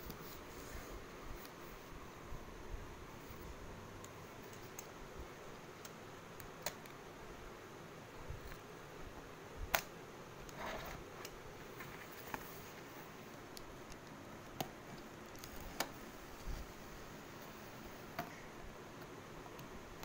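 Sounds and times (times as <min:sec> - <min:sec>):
low hiss: 0:00.0 - 0:20.0.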